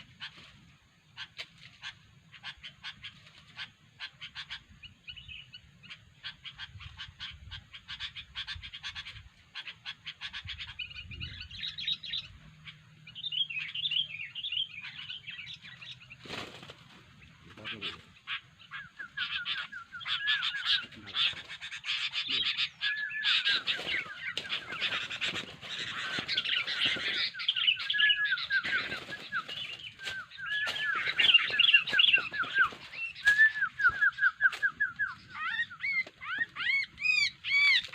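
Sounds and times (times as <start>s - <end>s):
bird chattering calls: 0.0s - 37.9s.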